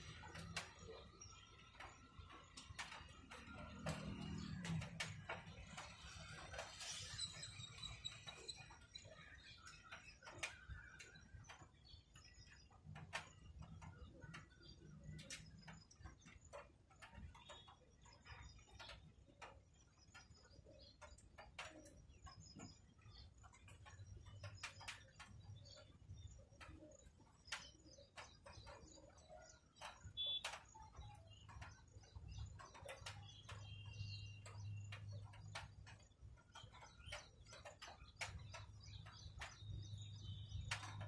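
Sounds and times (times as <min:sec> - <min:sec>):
distant bird calls: 0:00.0 - 0:41.0
faint clicks and ticks: 0:00.0 - 0:41.0.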